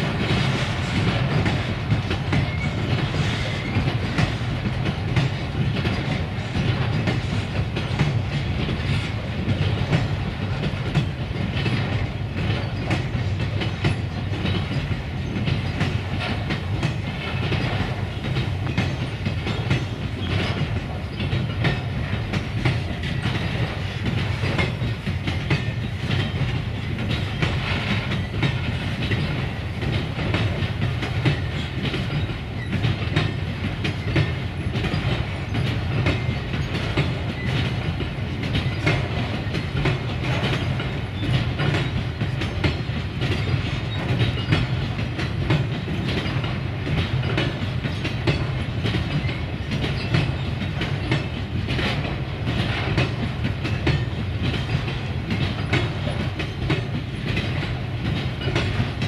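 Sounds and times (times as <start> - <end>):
freight train rumbling: 0.0 - 59.0
wheels clacking over rail joints: 0.0 - 59.0.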